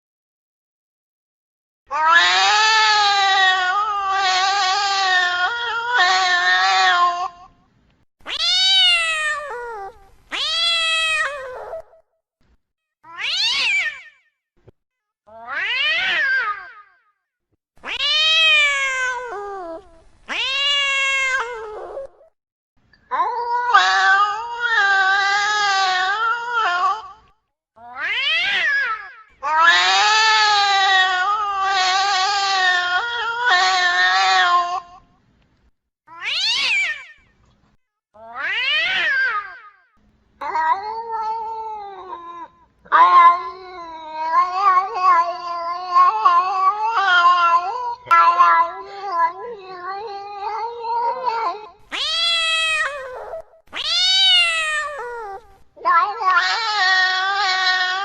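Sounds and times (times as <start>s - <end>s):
cats yowling in a fight: 1.9s - 7.4s, 8.3s - 12.0s, 13.1s - 14.1s, 15.3s - 16.8s, 17.8s - 22.3s, 23.1s - 35.1s, 36.1s - 37.1s, 38.2s - 39.7s, 40.4s - 58.0s.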